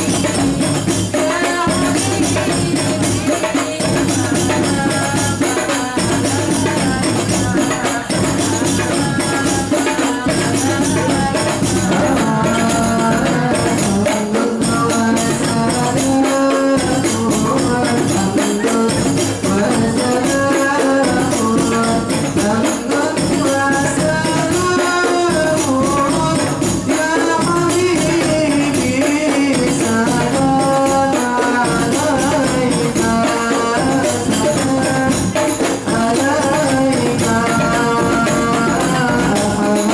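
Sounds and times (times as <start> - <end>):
frame drums and hand drum: 0.0 - 39.9.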